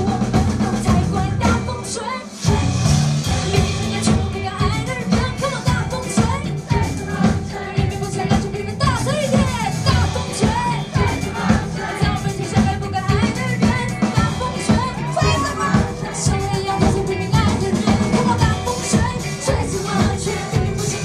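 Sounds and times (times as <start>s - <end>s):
live band playing: 0.0s - 21.0s
person singing through microphone: 0.0s - 21.0s
steady drum beat: 0.0s - 21.0s.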